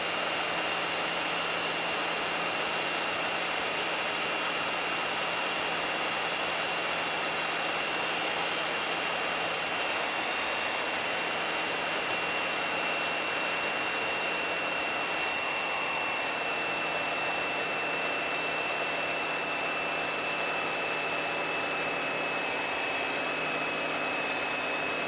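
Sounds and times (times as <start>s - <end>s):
aircraft cabin engine noise: 0.1s - 25.0s.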